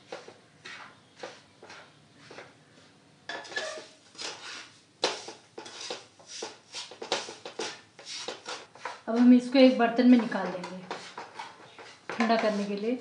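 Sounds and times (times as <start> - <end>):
wooden spatula scraping a pan: 0.0 - 13.0.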